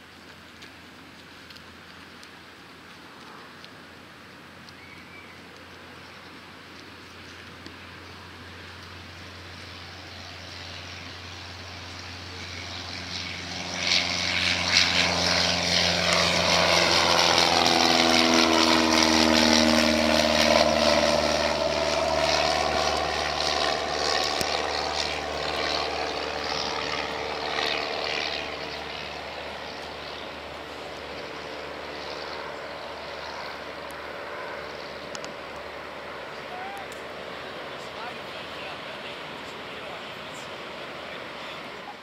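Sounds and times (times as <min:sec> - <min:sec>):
propeller plane flying past: 0:00.0 - 0:42.0.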